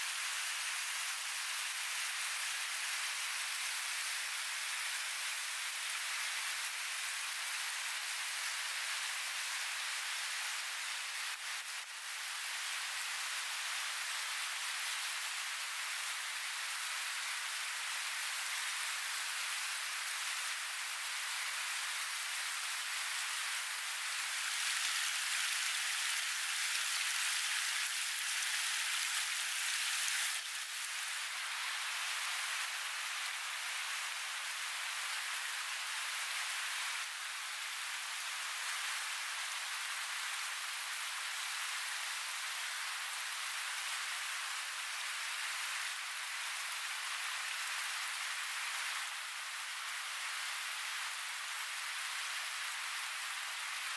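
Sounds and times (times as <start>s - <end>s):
river running over rocks: 0.0s - 53.9s.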